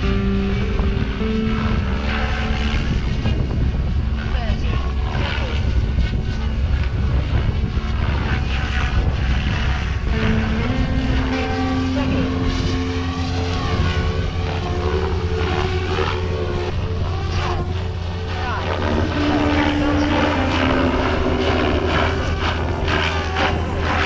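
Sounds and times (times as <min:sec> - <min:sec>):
rc helicopter motor whine: 0:01.1 - 0:24.0.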